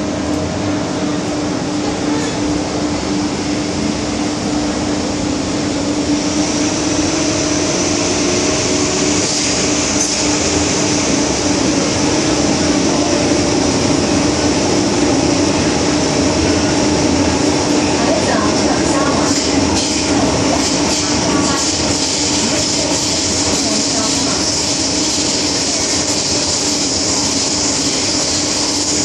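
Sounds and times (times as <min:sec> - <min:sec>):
steady hum: 0:00.0 - 0:29.0
train wheels rumbling on rail: 0:00.0 - 0:29.0.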